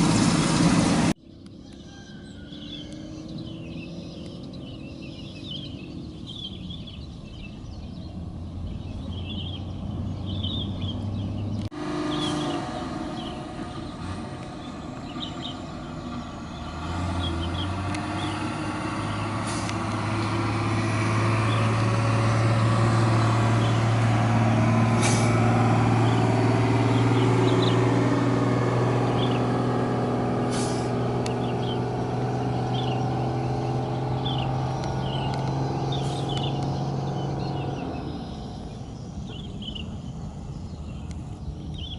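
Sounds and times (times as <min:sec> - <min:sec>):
birds chirping faintly: 0:01.2 - 0:41.9.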